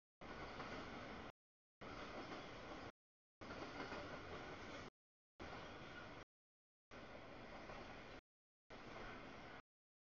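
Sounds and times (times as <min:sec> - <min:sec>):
train rolling past: 0:00.2 - 0:06.2, 0:07.0 - 0:09.6.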